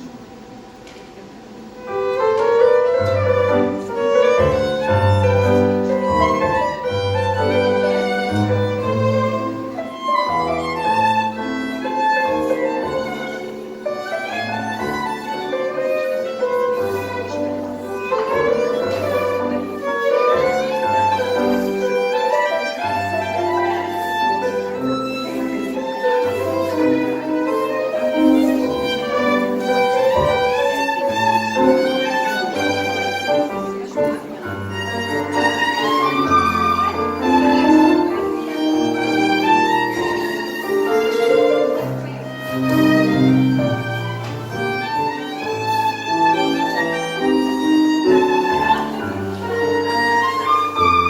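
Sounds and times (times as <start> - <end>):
tango band music: 0.0 - 51.0
violin: 1.7 - 51.0.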